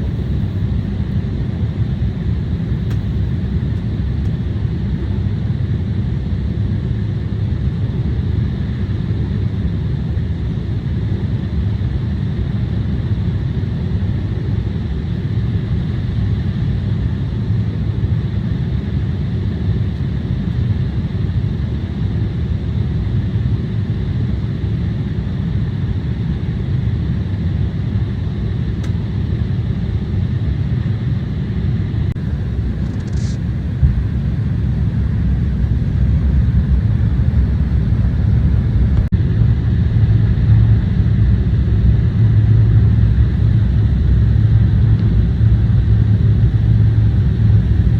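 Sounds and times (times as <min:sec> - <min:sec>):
airliner engine rumble in cabin: 0:00.0 - 0:47.9.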